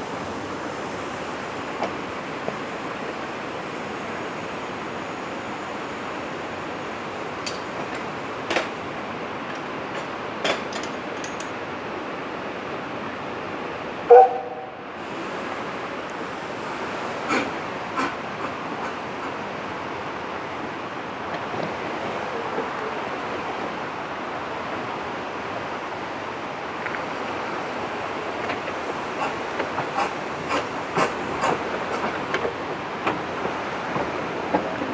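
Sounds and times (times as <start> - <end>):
railway carriage rolling: 0.0 - 34.9
rush of wind: 0.0 - 34.9.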